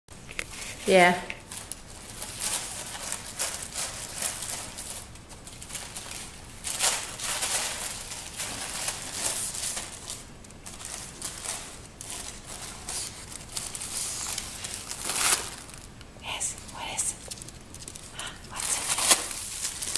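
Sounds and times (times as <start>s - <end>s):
wrapping paper crinkling: 0.4s - 19.9s.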